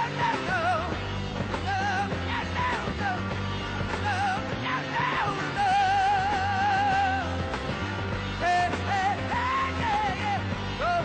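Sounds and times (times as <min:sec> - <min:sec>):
heavy rock band playing: 0:00.0 - 0:11.0.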